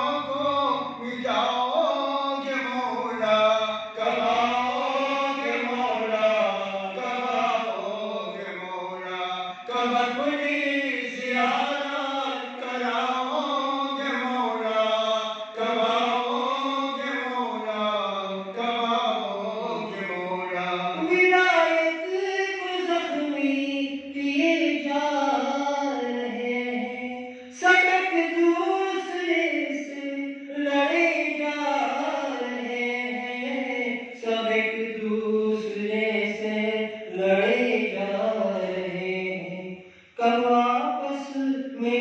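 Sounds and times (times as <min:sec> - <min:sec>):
men chanting into microphones: 0:00.0 - 0:42.0.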